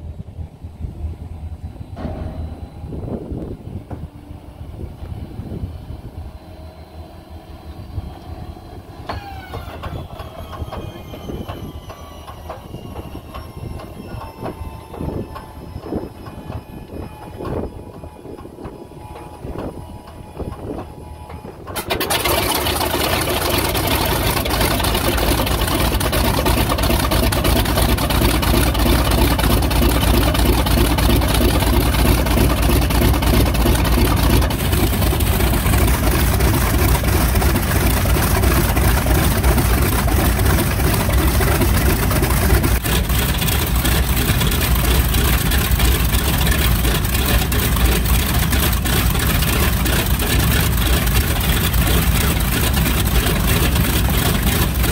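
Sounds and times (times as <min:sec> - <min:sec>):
radial aircraft engine running: 0:00.0 - 0:54.9.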